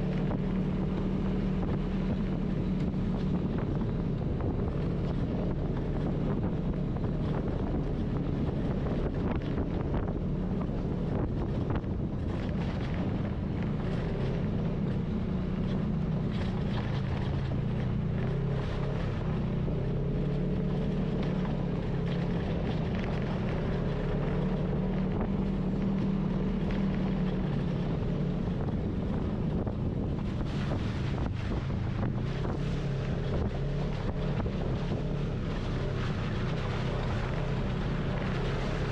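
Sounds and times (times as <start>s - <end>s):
off-road vehicle engine running: 0.0s - 38.9s
wind noise on microphone: 0.0s - 38.9s.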